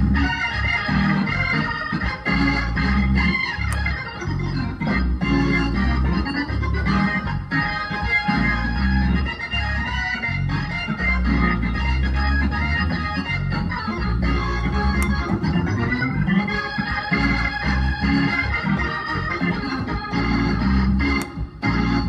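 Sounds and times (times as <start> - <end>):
gospel keyboard chords: 0.0 - 22.0.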